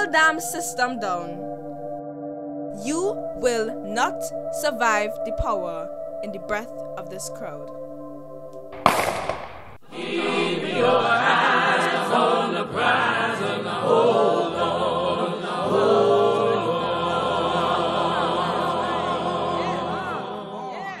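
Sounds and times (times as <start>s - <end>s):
voices singing long wavering notes: 0.0s - 8.7s, 9.8s - 21.0s.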